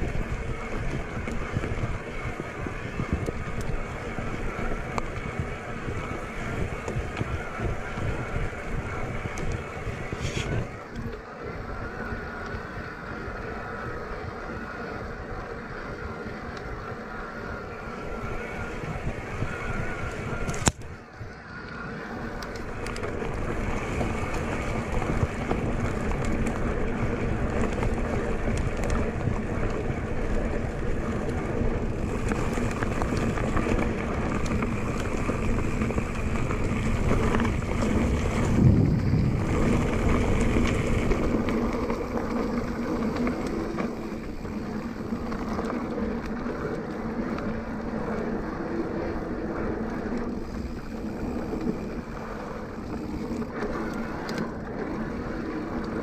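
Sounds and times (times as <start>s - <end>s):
mountain bike riding noise: 0.0s - 56.0s
wind buffeting microphone: 0.0s - 56.0s.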